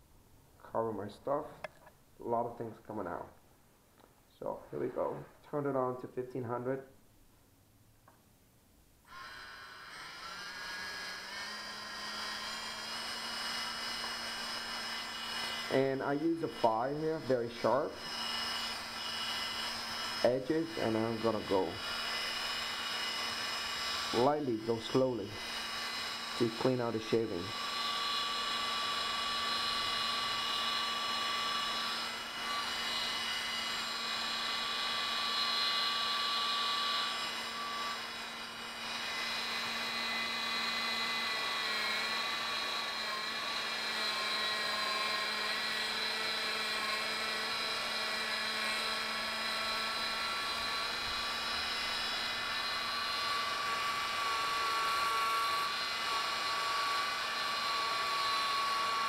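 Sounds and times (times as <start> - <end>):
electric motor whine: 9.1 - 59.0
file scraping metal: 10.0 - 59.0.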